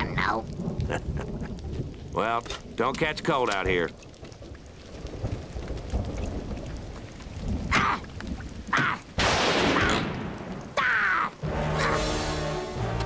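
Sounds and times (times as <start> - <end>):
rumbling thunder: 0.0 - 12.4
rain falling: 0.0 - 13.0.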